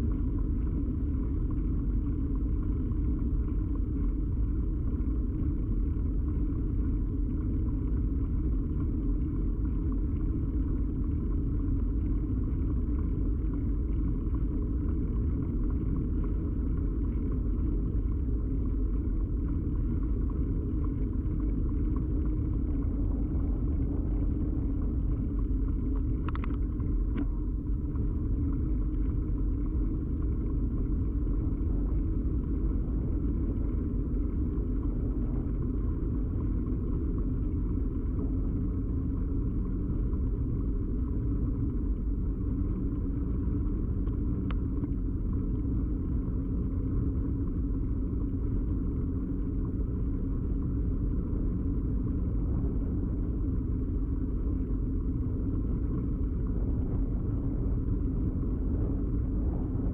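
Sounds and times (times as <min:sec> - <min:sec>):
bicycle ride rumble: 0:00.0 - 0:59.9.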